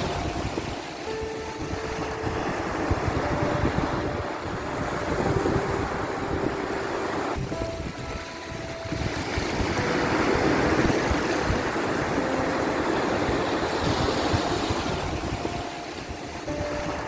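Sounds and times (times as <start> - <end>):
sea waves washing: 0.0 - 17.0.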